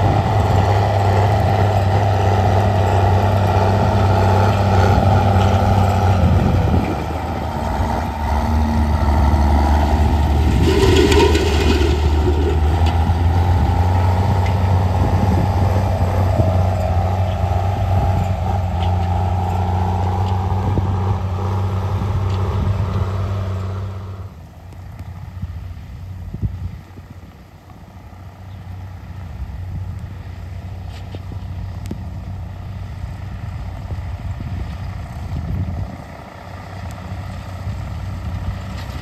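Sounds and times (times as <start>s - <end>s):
heavy engine humming: 0.0s - 39.0s.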